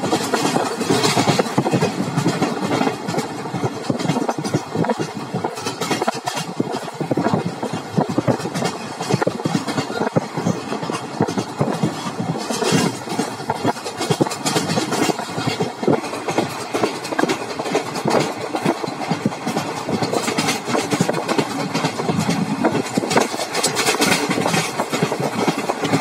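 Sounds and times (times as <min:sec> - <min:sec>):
clacks and rattles: 0:00.0 - 0:26.0
train wheels rumbling on rails: 0:00.0 - 0:26.0.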